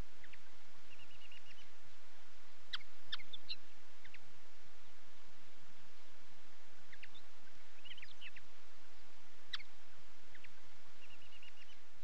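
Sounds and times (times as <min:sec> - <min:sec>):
background hiss: 0:00.0 - 0:12.0
songbirds chirping: 0:00.0 - 0:12.0.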